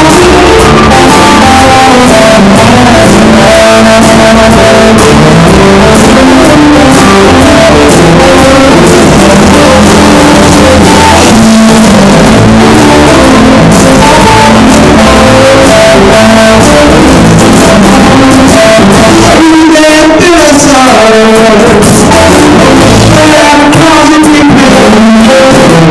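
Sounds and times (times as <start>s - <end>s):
electric guitar: 0.0s - 25.9s.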